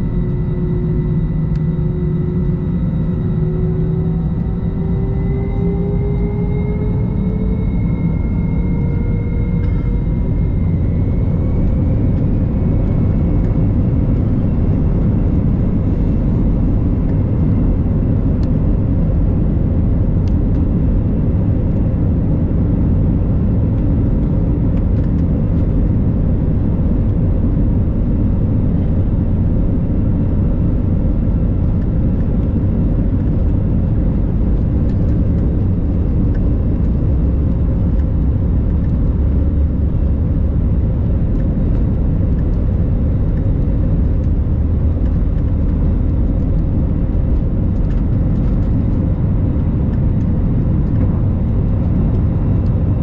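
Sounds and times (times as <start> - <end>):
jet engine roar in cabin: 0.0 - 53.0.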